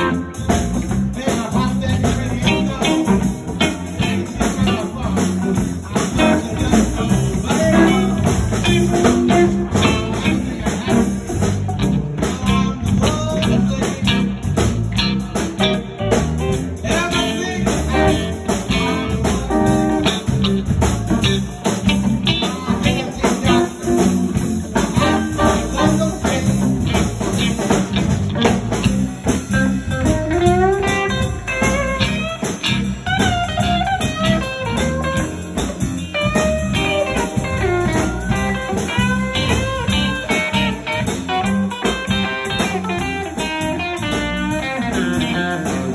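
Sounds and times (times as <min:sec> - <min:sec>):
live blues band playing: 0:00.0 - 0:45.9
lead guitar bent notes: 0:02.3 - 0:45.9.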